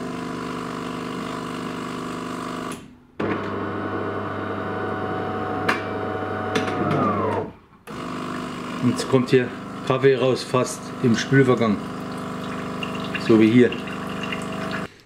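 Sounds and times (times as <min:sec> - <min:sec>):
coffee machine motor hum: 0:00.0 - 0:14.9.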